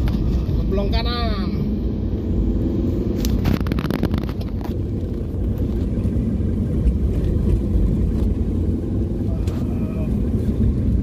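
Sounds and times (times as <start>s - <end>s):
large vehicle engine running: 0.0s - 11.0s
road traffic rumble: 0.0s - 11.0s.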